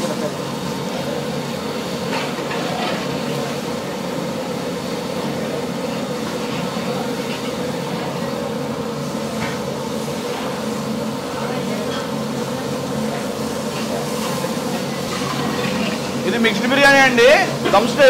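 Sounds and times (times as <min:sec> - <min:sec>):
low kitchen rumble: 0:00.0 - 0:18.0.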